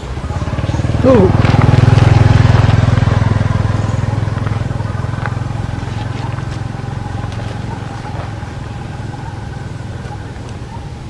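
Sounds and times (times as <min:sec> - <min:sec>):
motor engine running: 0:00.0 - 0:11.0.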